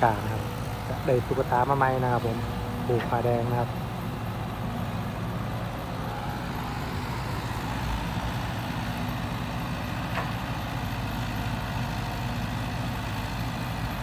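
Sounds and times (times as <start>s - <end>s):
diesel engines droning: 0.0s - 14.0s.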